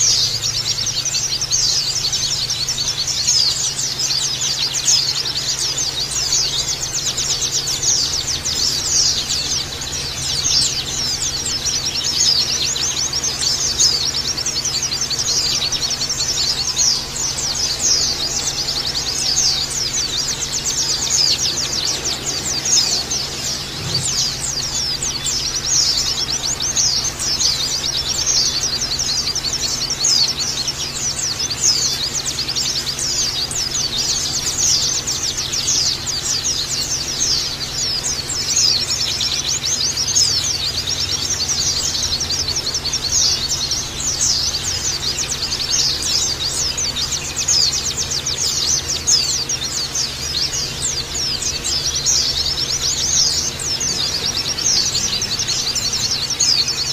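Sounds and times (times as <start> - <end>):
flock of birds chirping: 0.0 - 56.9.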